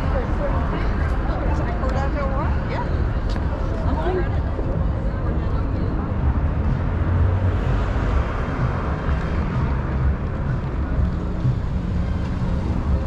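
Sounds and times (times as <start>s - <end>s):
car engine rumble: 0.0s - 13.0s
tyre and road noise: 0.0s - 13.0s.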